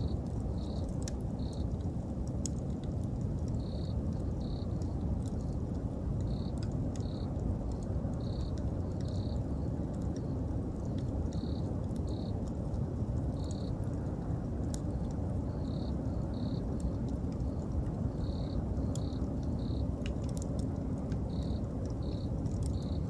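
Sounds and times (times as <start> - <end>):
cricket chirping: 0.0 - 1.8, 3.4 - 5.5, 6.2 - 12.6, 13.2 - 14.0, 14.7 - 23.0
bonfire crackling: 0.0 - 23.0.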